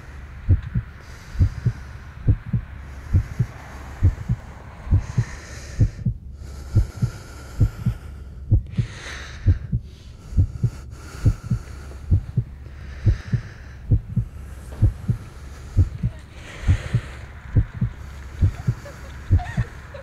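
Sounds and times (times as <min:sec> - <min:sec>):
heartbeat: 0:00.0 - 0:20.0
low hum: 0:00.0 - 0:20.0
soft background noise: 0:00.0 - 0:20.0.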